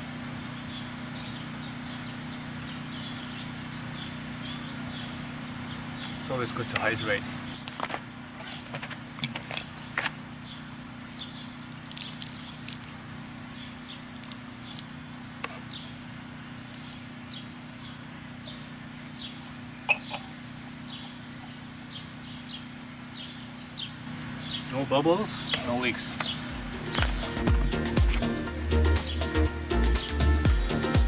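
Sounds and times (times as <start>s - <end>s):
steady low hum: 0.0s - 31.0s
small birds chirping: 0.4s - 7.8s, 9.6s - 31.0s.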